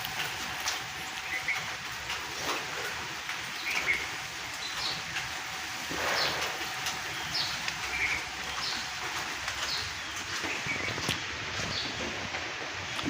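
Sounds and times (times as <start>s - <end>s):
steady hiss: 0.0s - 13.0s
small birds chirping: 1.0s - 12.2s.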